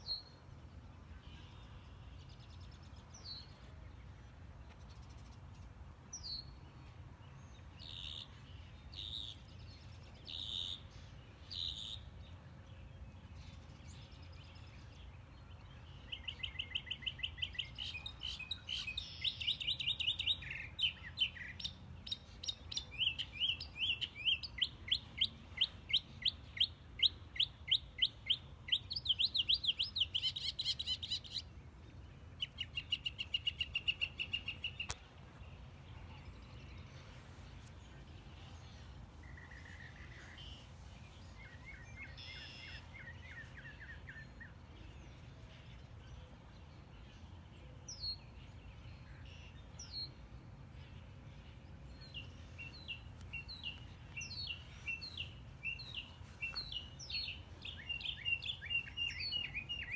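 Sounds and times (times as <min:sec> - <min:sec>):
small songbirds singing: 0:01.2 - 0:59.9.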